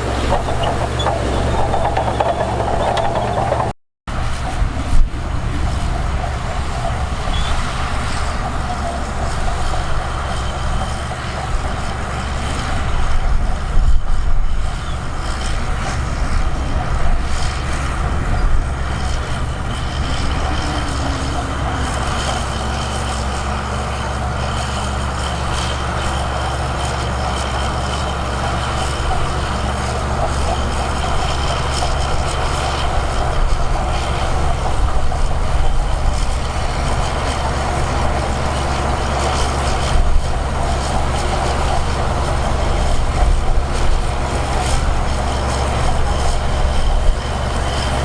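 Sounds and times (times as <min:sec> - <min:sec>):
heavy diesel machinery running: 0:00.0 - 0:48.0.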